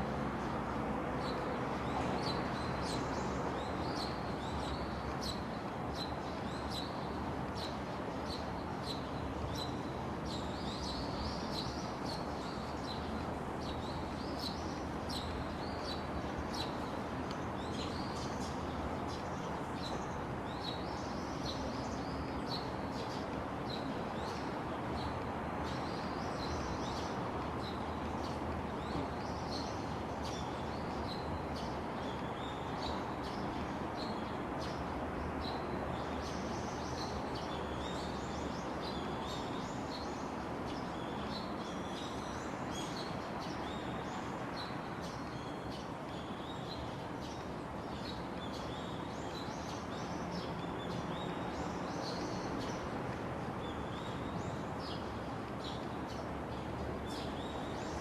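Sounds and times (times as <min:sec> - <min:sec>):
steady background noise: 0:00.0 - 0:58.0
small birds chirping: 0:01.2 - 0:58.0.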